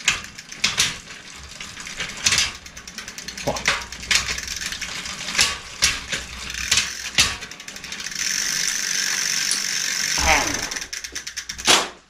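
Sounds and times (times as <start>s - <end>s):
bicycle chain slapping: 0.0s - 12.0s
bicycle hub clicks and knocks: 0.0s - 12.0s
bicycle wheel whirring: 0.0s - 12.0s.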